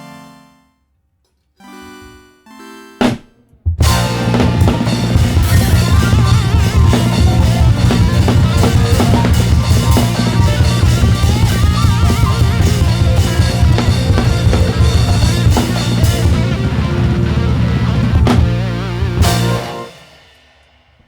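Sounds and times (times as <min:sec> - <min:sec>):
bass guitar: 0:03.0 - 0:20.0
guitar: 0:03.0 - 0:20.1
drum kit beating fast: 0:03.0 - 0:21.0.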